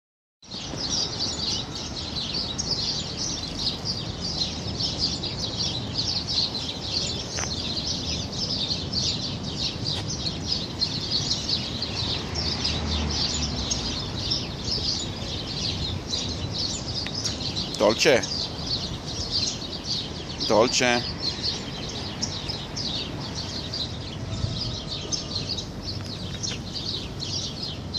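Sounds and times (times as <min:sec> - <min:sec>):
small birds chirping: 0:00.4 - 0:27.9.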